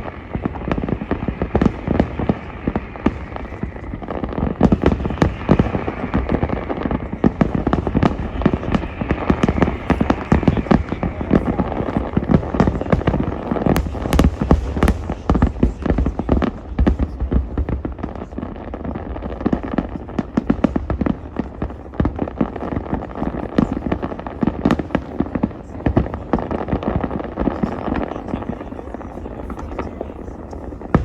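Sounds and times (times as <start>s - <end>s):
fireworks sharp bangs: 0.0s - 31.0s
low fireworks booms: 0.0s - 31.0s.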